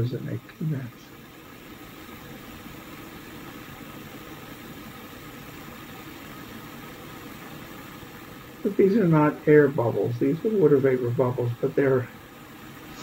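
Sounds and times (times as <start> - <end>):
water hissing in saucepan: 0.0 - 13.0.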